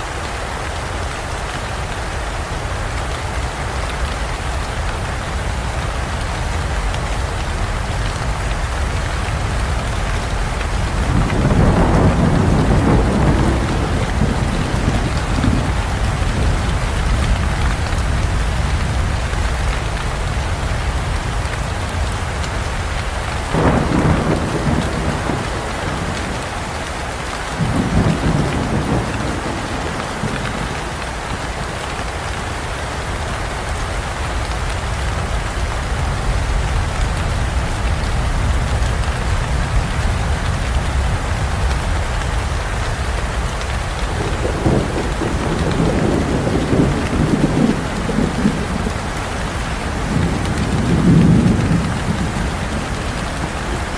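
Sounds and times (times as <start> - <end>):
steady rain falling: 0.0 - 53.9
thunder rumbling: 5.0 - 31.6, 34.4 - 53.9.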